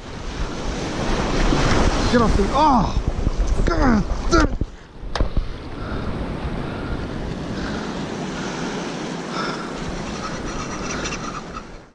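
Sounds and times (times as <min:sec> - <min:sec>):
waves washing over reef: 0:00.0 - 0:11.9
wind buffeting microphone: 0:00.0 - 0:11.9.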